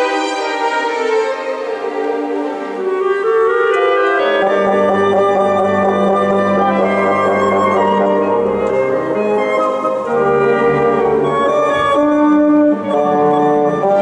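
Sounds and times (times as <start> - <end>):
chamber orchestra playing: 0.0 - 14.0
low sustained notes: 0.0 - 14.0.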